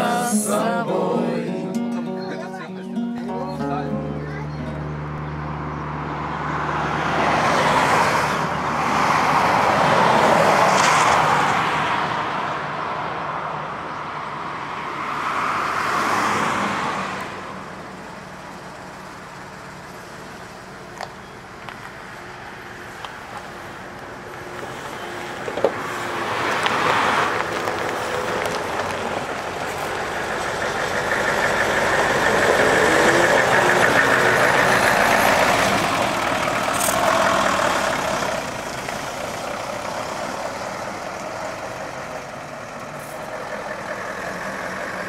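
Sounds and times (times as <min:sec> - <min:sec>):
coach engine: 0:00.0 - 0:10.9, 0:16.2 - 0:45.0
cars passing: 0:00.0 - 0:45.0.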